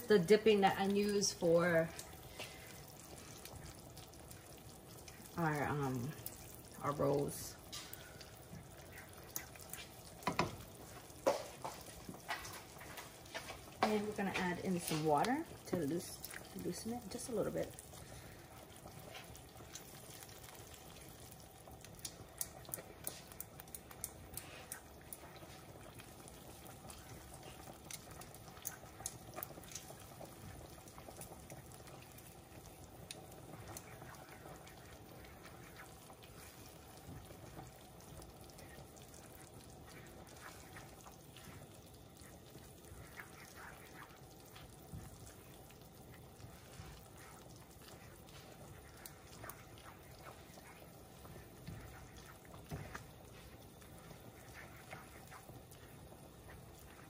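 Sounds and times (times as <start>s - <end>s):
faint steady hum: 0.0s - 57.0s
spoon stirring thick sauce: 0.2s - 57.0s.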